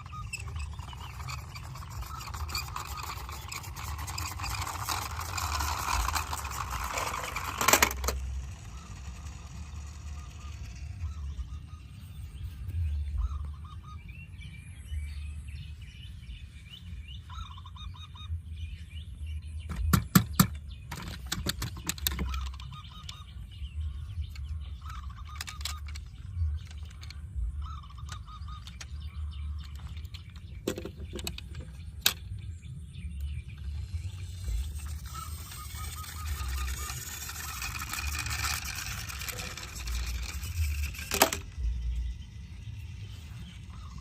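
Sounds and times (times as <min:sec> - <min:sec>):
steady low rumble: 0:00.0 - 0:19.7, 0:22.3 - 0:44.0
birds chirping: 0:00.0 - 0:44.0.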